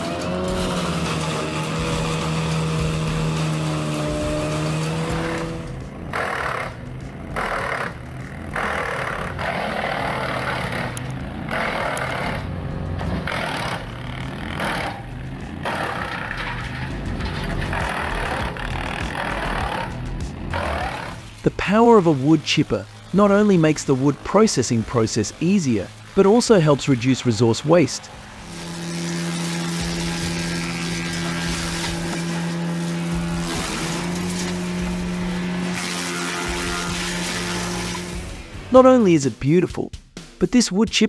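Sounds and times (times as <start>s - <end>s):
wood chipper engine running: 0.0s - 39.2s
wood chipper shredding wood: 0.0s - 39.6s.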